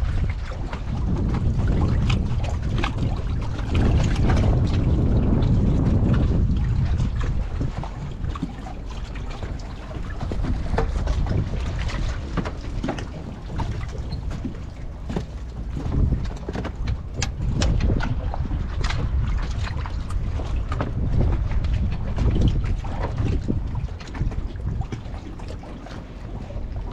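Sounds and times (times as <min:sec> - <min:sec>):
sharp ticks and splash-like knocks: 0:00.0 - 0:26.9
wind buffeting microphone: 0:00.0 - 0:26.9.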